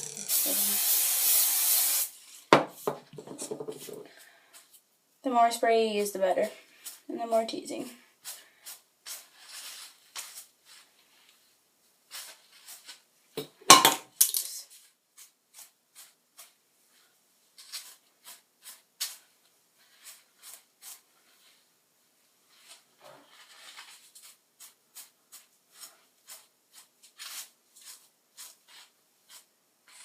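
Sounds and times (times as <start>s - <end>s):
comb back-combing hair: 0.0s - 2.4s, 3.5s - 13.1s, 14.7s - 21.7s, 22.4s - 30.0s.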